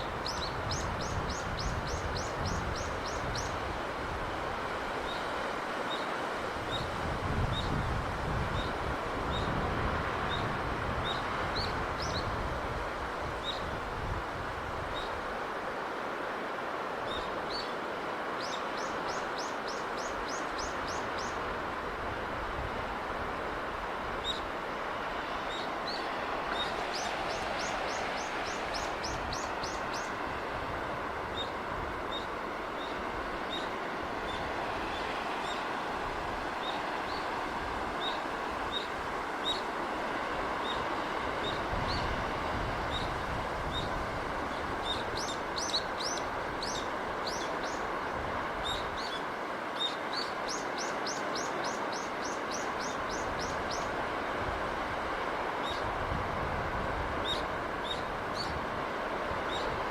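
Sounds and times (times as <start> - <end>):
sea wind and surf: 0.0 - 59.9.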